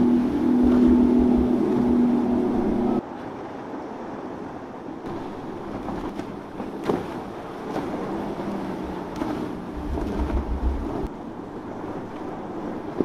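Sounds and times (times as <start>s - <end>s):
wind buffeting microphone: 0.0s - 11.1s
outboard motor drone: 0.0s - 13.0s
water rushing from hull: 0.0s - 13.0s.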